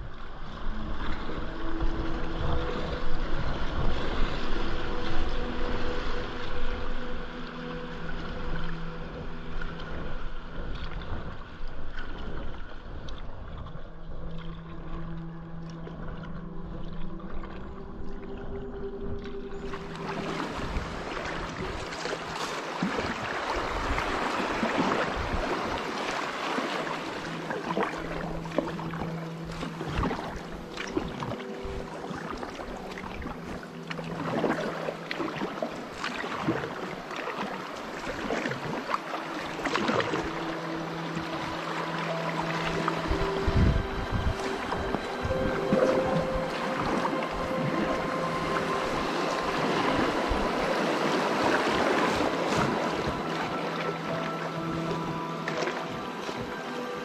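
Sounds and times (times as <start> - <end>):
paddle splashing in water: 0.0 - 57.0
water rushing along hull: 0.0 - 57.0.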